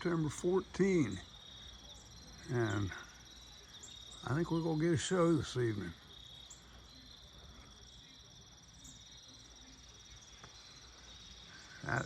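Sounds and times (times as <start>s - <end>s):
faint insect chorus trilling: 0.0s - 12.0s.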